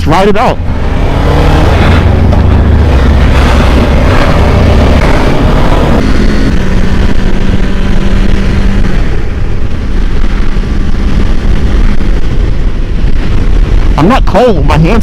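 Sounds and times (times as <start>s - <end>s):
wind rumble on microphone: 0.0s - 15.0s
motorcycle engine running: 0.6s - 14.4s.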